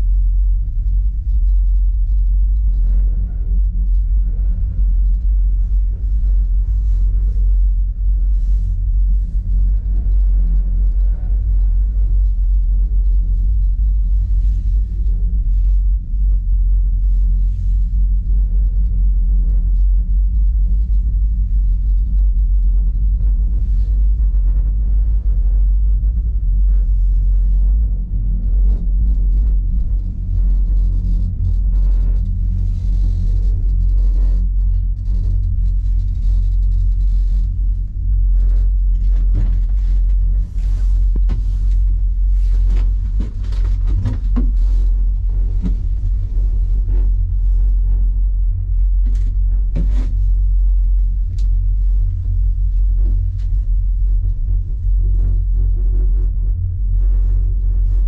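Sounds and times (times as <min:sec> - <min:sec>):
faint clicks and creaks: 0:00.0 - 0:58.0
gondola rumbling down cable: 0:00.0 - 0:58.0.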